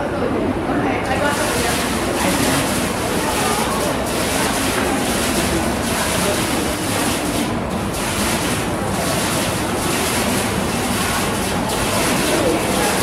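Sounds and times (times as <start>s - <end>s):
fountain water splashing: 1.1s - 13.0s.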